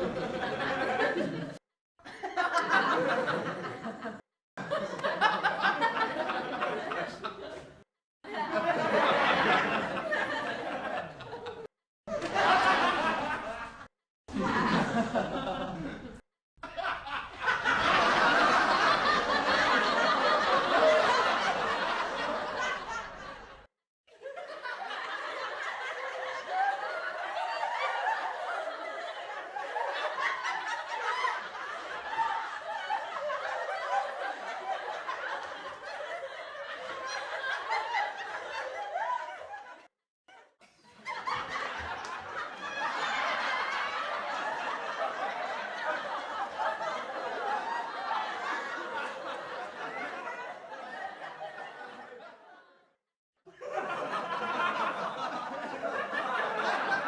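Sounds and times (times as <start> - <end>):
studio audience laughing: 0.0 - 57.0.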